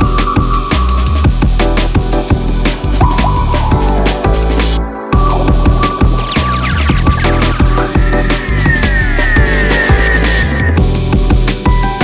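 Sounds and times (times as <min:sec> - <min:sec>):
drum and bass music: 0:00.0 - 0:12.0.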